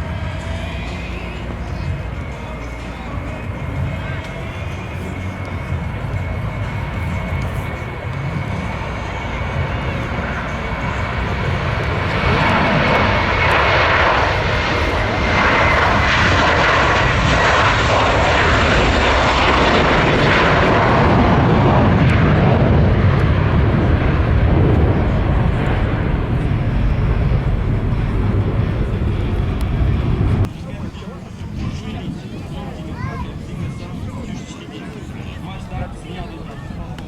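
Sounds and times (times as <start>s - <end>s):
transport aircraft engines: 0.0s - 37.0s.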